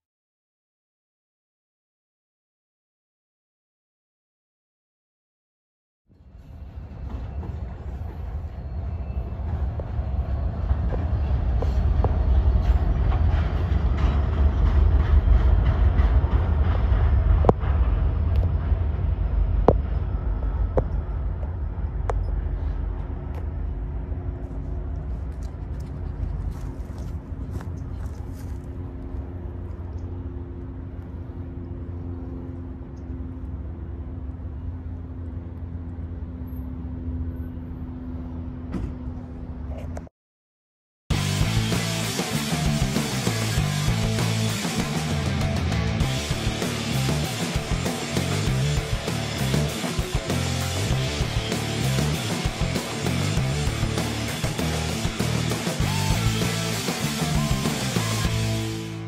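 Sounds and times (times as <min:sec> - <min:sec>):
diesel train rumbling: 0:06.1 - 0:39.7, 0:41.1 - 0:59.0.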